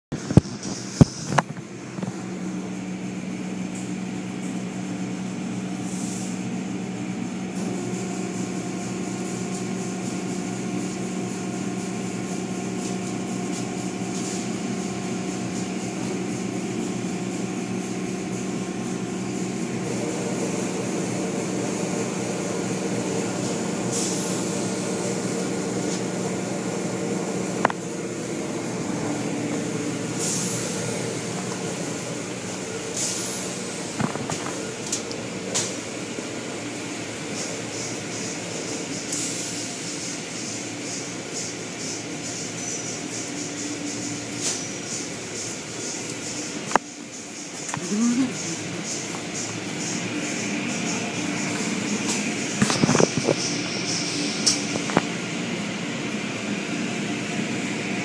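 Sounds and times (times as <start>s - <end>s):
car wash machinery hum: 0.1s - 58.0s.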